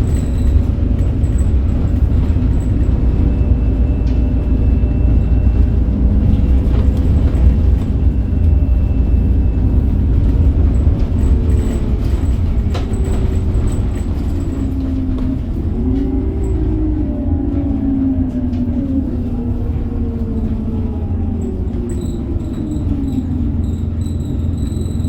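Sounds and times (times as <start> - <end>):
bus diesel engine rumbling: 0.0 - 25.0.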